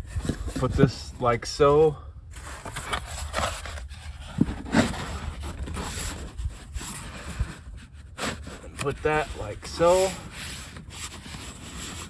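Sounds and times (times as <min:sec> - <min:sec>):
scraping and rustling of materials: 0:00.0 - 0:01.6, 0:02.3 - 0:12.0.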